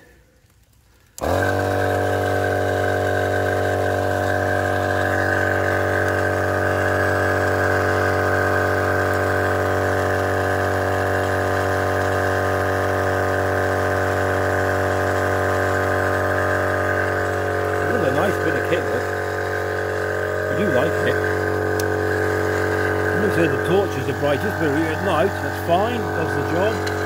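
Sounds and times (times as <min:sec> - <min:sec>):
air compressor running: 0:00.9 - 0:27.0.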